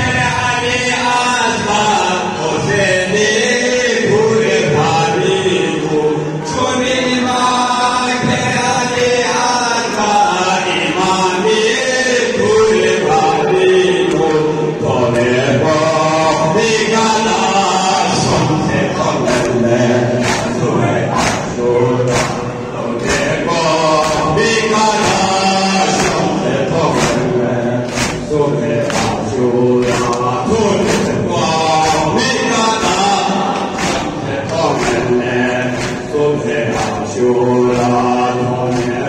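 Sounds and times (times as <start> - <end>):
voices chanting together: 0.0 - 39.0.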